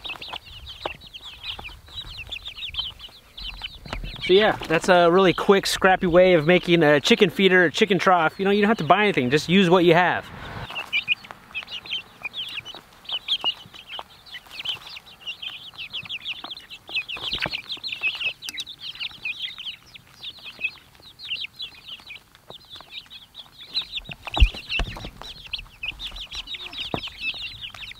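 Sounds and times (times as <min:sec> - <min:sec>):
chicks peeping: 0:00.0 - 0:27.9.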